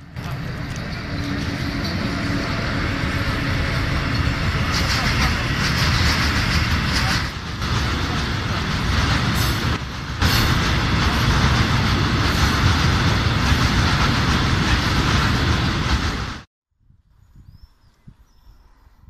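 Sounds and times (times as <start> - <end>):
freight train wheels rumbling: 0.0 - 16.5.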